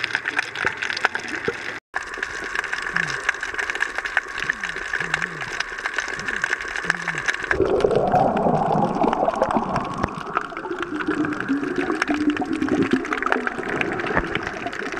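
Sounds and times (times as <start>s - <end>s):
rush of water bubbles: 0.0s - 14.9s
small clicks through water: 0.0s - 14.9s.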